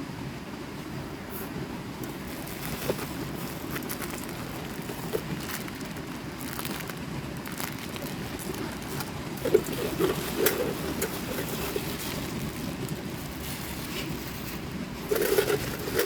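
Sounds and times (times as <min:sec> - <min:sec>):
river flowing: 0:01.1 - 0:15.9.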